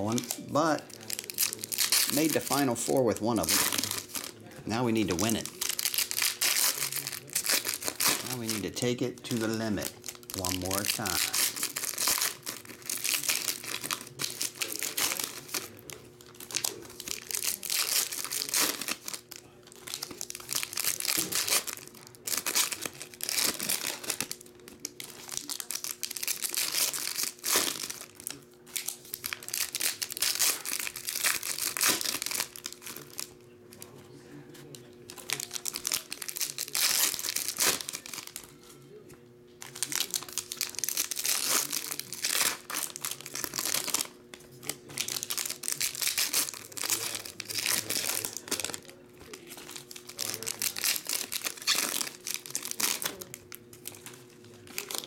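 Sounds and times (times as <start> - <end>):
foil packs tearing and crinkling: 0.0 - 34.0, 35.1 - 38.6, 39.6 - 55.0.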